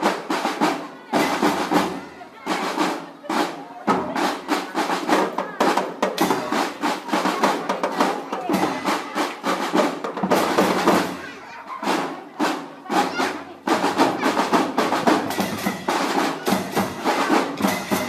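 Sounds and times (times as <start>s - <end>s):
snare drums beating: 0.0s - 18.0s.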